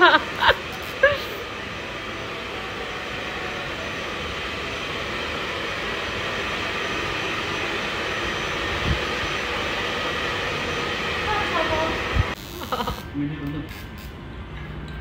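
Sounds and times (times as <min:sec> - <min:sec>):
hair dryer blowing: 0:00.0 - 0:13.1.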